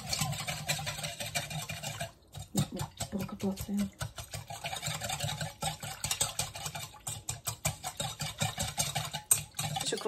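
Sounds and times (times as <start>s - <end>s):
whisk clicking against metal bowl: 0.0s - 10.0s.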